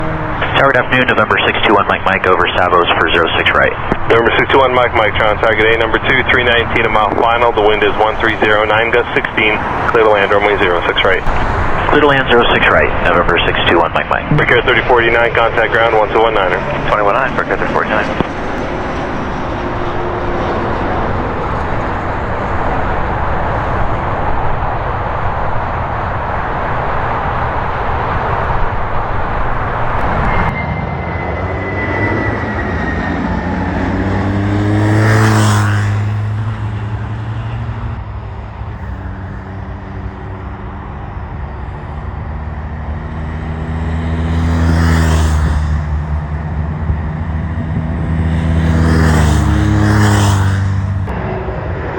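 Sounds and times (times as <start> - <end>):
steady rushing noise: 0.0 - 51.9
vehicles driving past: 0.0 - 51.9.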